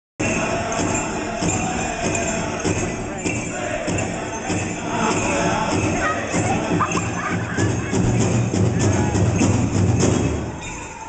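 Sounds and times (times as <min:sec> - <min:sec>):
group singing: 0:00.2 - 0:10.0
big drum beating: 0:00.2 - 0:10.6
bells jingling: 0:00.2 - 0:11.0.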